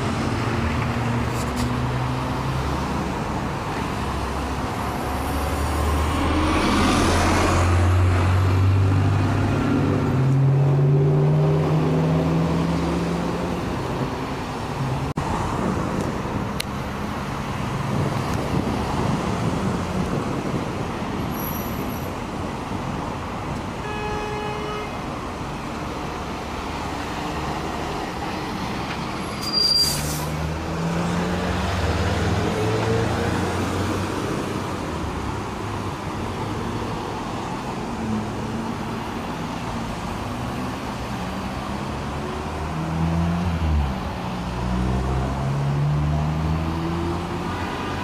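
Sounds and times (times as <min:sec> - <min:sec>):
car engines passing: 0:00.0 - 0:23.8, 0:25.0 - 0:48.0.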